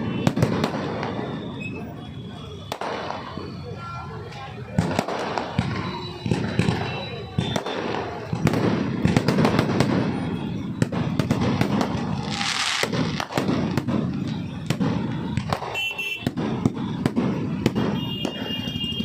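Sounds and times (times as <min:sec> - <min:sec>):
firework bangs: 0:00.0 - 0:03.8, 0:04.5 - 0:19.0
firework crackle: 0:00.0 - 0:19.0.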